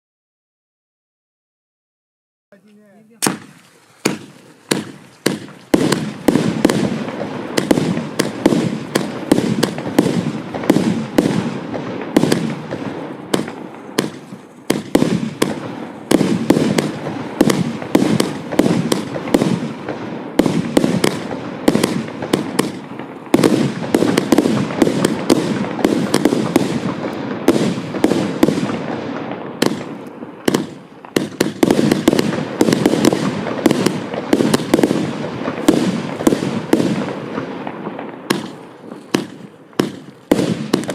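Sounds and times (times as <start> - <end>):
firework barrage bangs: 3.1 - 40.9.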